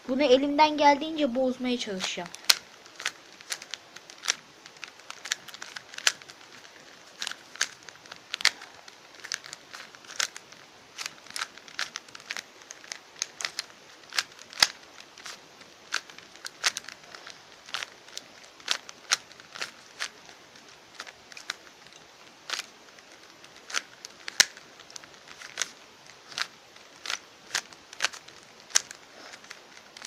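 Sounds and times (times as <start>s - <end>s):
puzzle cube twisting clicks: 2.0s - 30.0s.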